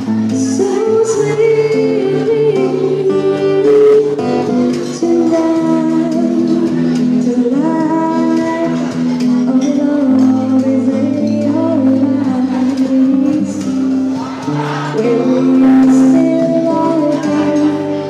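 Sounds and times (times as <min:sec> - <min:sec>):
strummed acoustic guitar: 0:00.0 - 0:18.0
woman singing slow melody: 0:00.0 - 0:18.0.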